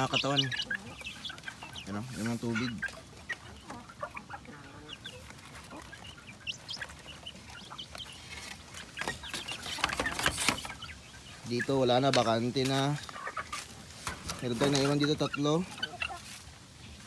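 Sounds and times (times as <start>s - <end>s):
chicks clucking and peeping: 0.0s - 17.0s.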